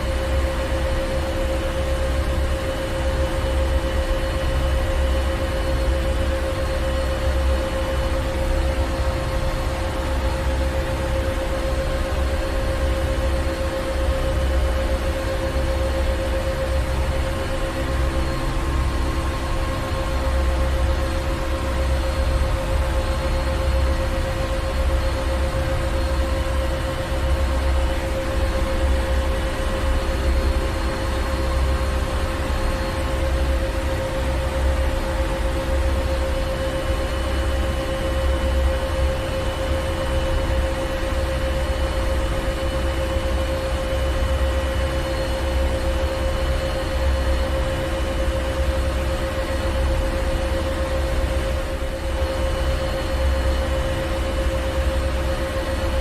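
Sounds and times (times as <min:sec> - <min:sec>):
mid-pitched machinery hum: 0:00.0 - 0:56.0.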